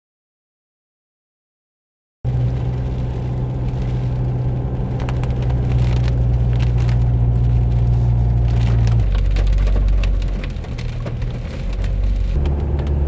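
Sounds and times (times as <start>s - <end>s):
light ticks and crackles: 2.3s - 13.0s
steady low rumble: 2.3s - 13.0s.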